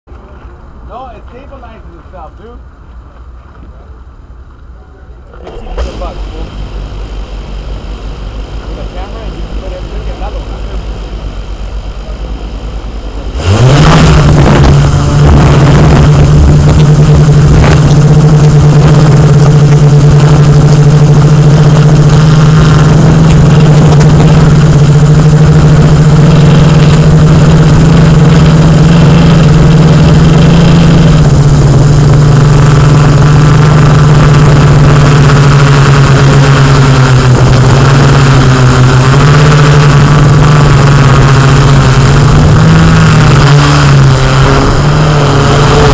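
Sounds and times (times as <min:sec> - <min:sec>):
drone propellers humming: 0:00.1 - 0:45.9.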